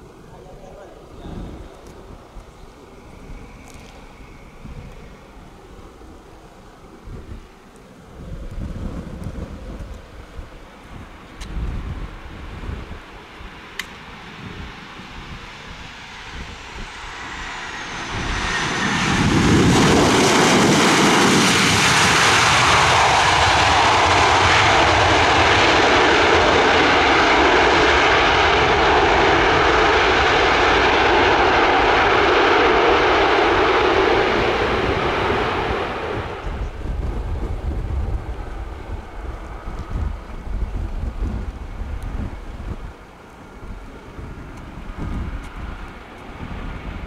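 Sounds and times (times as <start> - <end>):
jet engines reverse thrust roar: 0.0 - 47.0.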